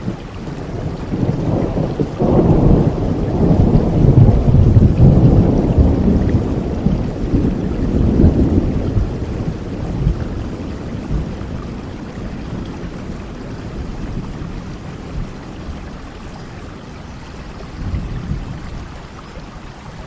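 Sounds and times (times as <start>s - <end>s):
thunder rolling: 0.0s - 18.8s
steady rain: 0.0s - 20.0s.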